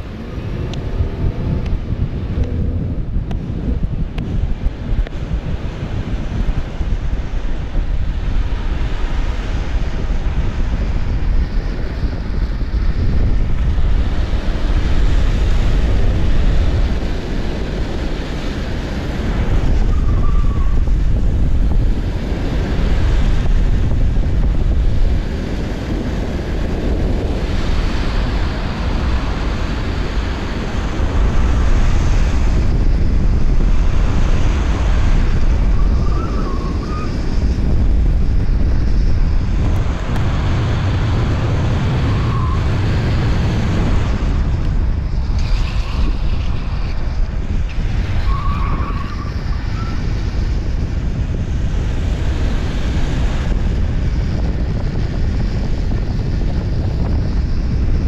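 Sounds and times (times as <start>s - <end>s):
wheels rumbling on asphalt: 0.0s - 58.0s
wind buffeting microphone: 0.0s - 58.0s.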